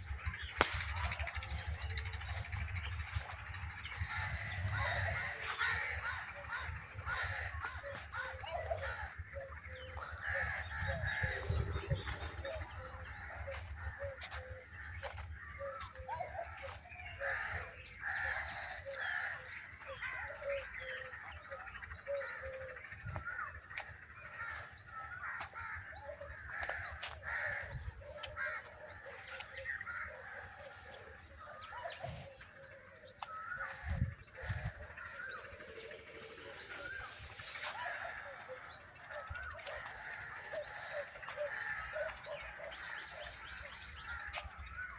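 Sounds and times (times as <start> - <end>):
birds chirping and calling: 0.0 - 44.9.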